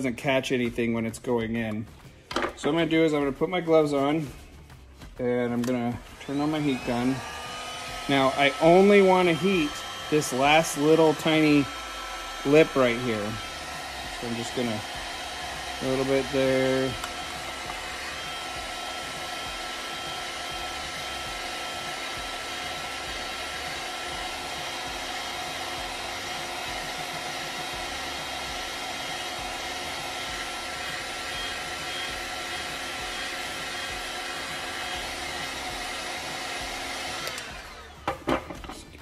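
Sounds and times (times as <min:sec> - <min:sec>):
heat gun fan blowing: 0:05.2 - 0:39.0.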